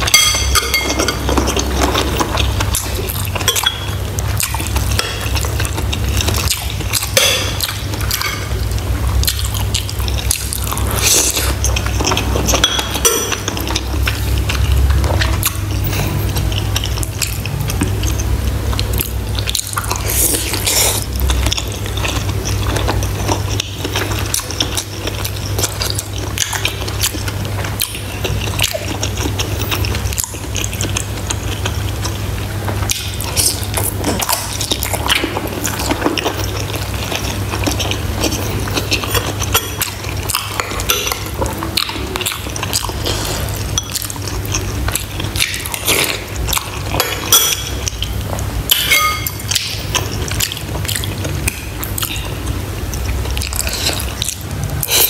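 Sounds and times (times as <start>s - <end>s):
steady low hum: 0.0s - 55.0s
wet chewing and squelching: 0.0s - 55.0s.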